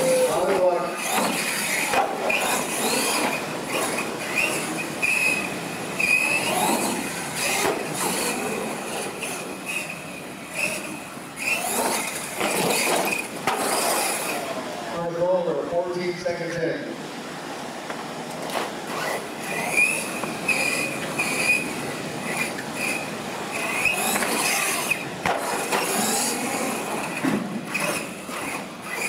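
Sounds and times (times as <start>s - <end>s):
toy truck motor whining: 0.0s - 14.5s, 18.9s - 29.0s.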